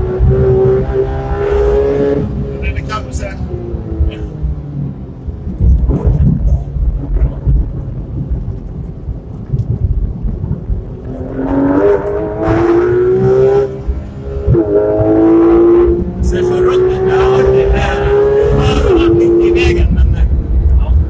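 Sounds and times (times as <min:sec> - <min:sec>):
car engine revving: 0:00.0 - 0:21.0
road and tyre rumble: 0:00.0 - 0:21.0.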